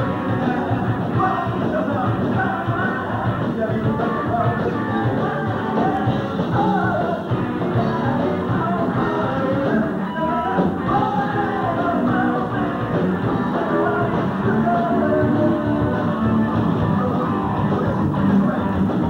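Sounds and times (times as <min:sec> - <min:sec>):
live rock band: 0:00.0 - 0:19.0
person singing: 0:00.0 - 0:19.0.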